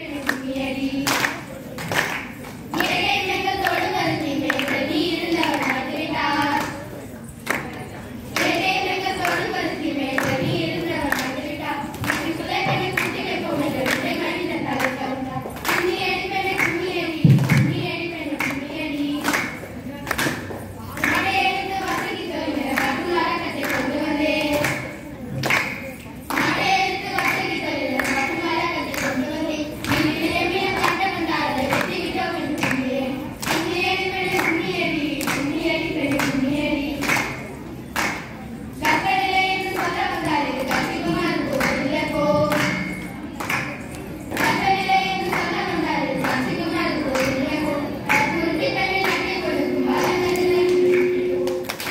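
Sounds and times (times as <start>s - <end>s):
girls singing in unison: 0.0s - 51.9s
hand claps: 0.1s - 6.8s, 7.4s - 51.9s.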